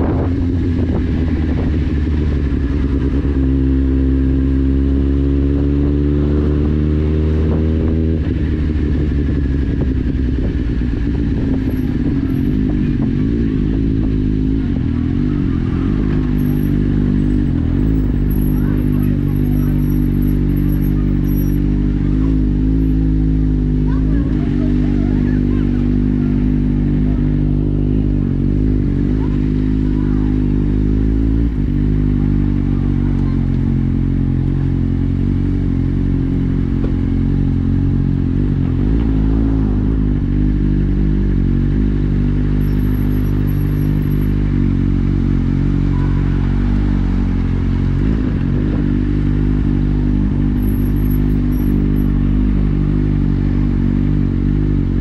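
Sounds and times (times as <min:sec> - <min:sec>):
motorcycle engine at low revs: 0:00.0 - 0:55.0.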